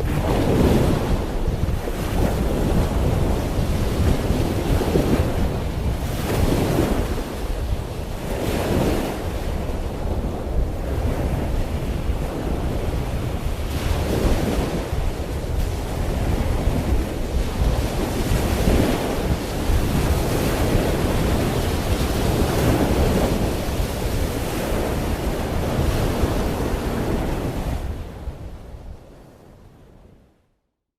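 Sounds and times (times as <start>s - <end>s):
ocean waves washing in: 0.0s - 30.0s
wind buffeting microphone: 0.0s - 30.2s.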